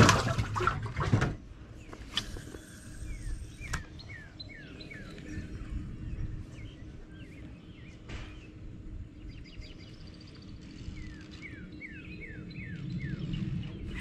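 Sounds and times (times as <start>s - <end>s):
low outdoor background: 0.0s - 14.0s
bird chirping: 1.7s - 14.0s.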